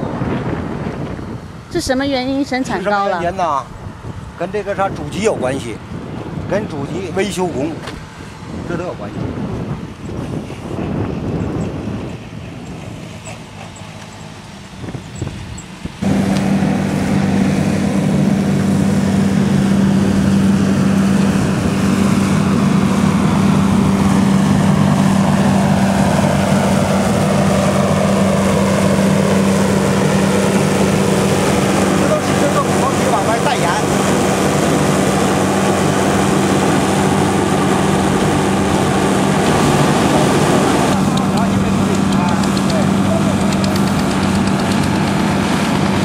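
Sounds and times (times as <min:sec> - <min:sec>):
loud low mechanical hum: 0:00.0 - 0:46.0
wind-like noise: 0:00.0 - 0:46.0.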